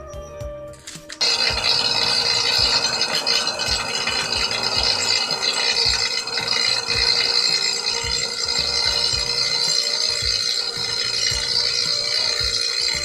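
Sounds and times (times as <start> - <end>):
shredder rattling whirr: 1.0 - 13.0
motor hum: 1.2 - 13.0.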